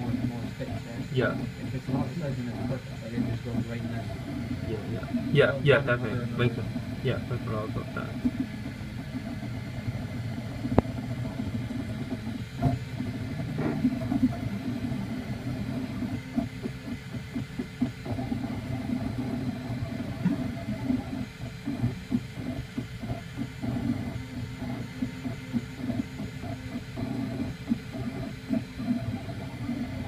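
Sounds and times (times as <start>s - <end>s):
printer motor and fan hum: 0.0s - 30.0s.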